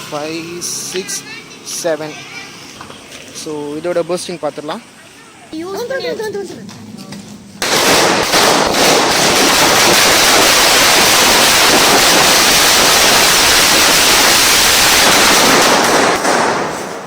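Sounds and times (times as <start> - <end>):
firecrackers crackling: 0.0 - 5.9, 6.6 - 17.0.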